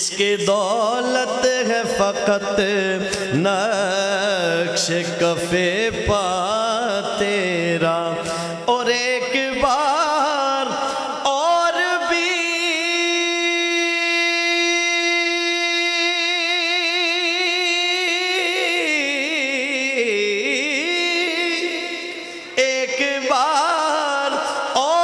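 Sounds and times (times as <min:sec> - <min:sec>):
person singing unaccompanied: 0:00.0 - 0:25.0.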